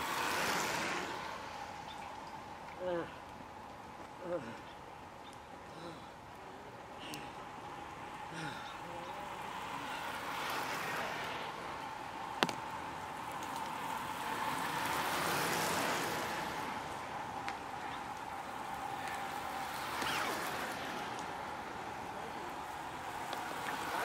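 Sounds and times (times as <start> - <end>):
bicycle tyres hissing on wet asphalt: 0.0 - 24.0
steady background hiss: 0.0 - 24.0.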